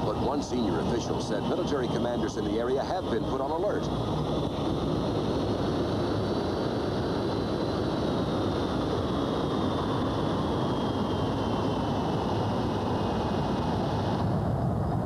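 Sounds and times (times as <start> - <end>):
high-pitched engine whine: 0.0 - 15.0
jet engines running: 0.0 - 15.0.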